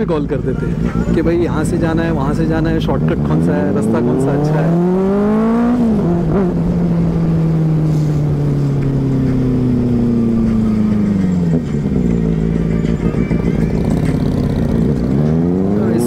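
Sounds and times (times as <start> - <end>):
motorcycle engine revving: 0.6 - 16.0.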